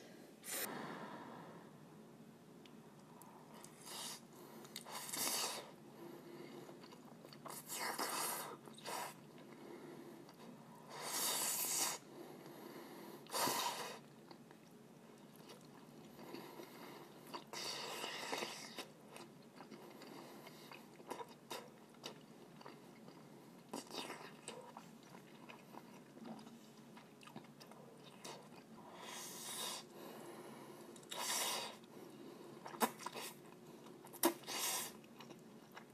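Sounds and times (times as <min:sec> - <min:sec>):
soft chewing: 0:02.6 - 0:35.9.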